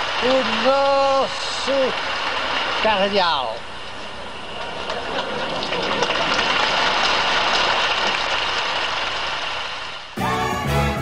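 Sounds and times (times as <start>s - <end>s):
congregation applauding: 0.0s - 3.6s, 4.6s - 11.0s.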